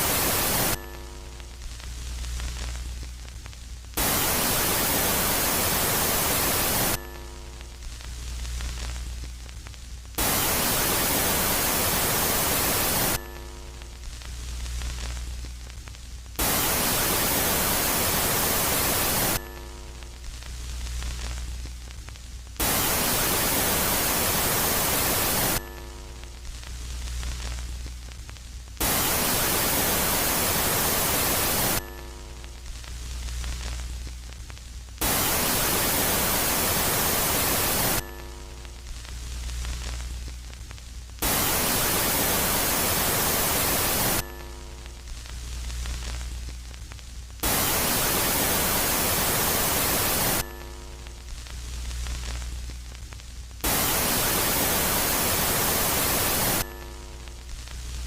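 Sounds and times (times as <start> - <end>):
loud static hiss blasts: 0.0 - 58.0.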